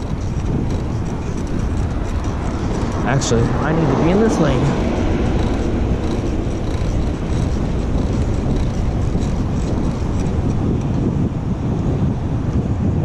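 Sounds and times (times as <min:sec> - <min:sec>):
road and traffic noise: 0:00.0 - 0:13.0
wind noise on microphone: 0:00.0 - 0:13.0.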